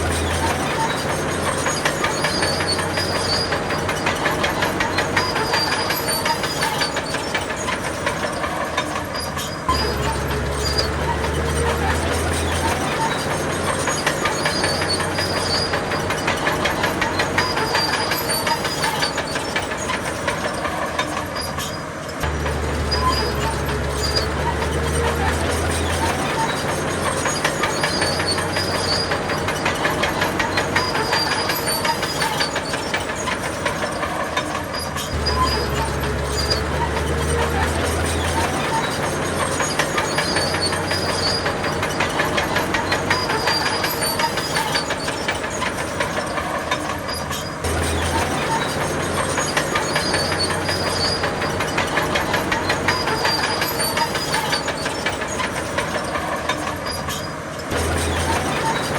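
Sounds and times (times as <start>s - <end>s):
bulldozer diesel engine running: 0.0s - 58.9s
steel tracks clattering: 0.0s - 58.9s.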